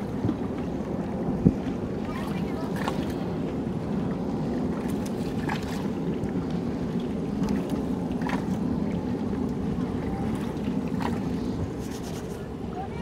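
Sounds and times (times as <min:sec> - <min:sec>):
river water around boat: 0:00.0 - 0:13.0.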